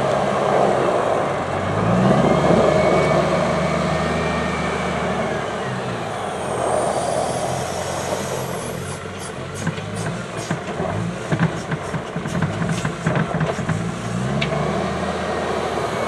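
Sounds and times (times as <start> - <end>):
wheel loader diesel engine: 0.0 - 16.0.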